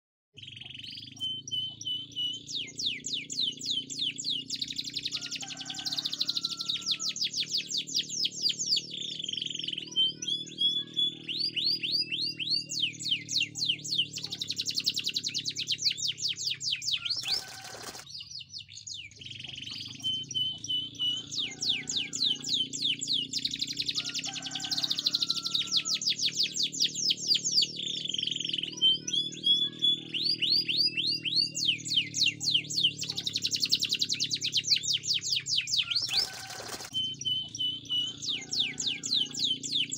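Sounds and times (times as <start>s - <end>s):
canary singing trills: 0.4s - 39.9s.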